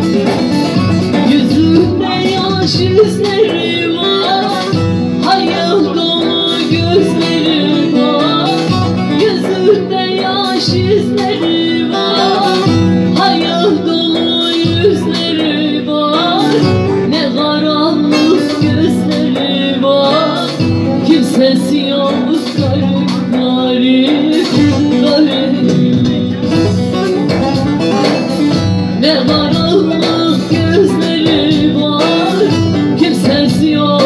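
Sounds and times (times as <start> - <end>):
woman singing amplified: 0.0 - 34.0.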